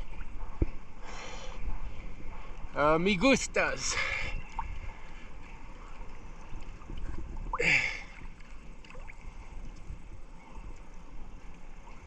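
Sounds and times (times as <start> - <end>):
water lapping and sloshing: 0.0 - 12.0.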